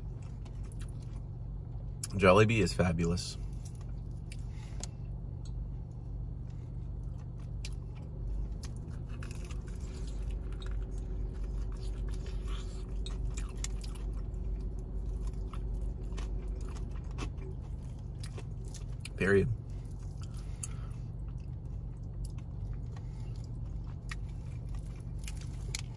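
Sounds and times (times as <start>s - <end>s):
steady low hum: 0.0s - 25.9s
crunchy chewing: 3.4s - 25.9s.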